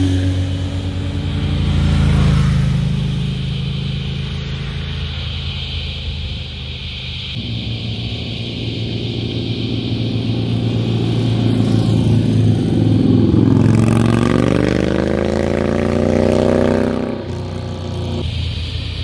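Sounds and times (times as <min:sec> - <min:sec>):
motorcycle approaching: 0:00.0 - 0:19.0
motorcycle engine accelerating: 0:00.0 - 0:19.0.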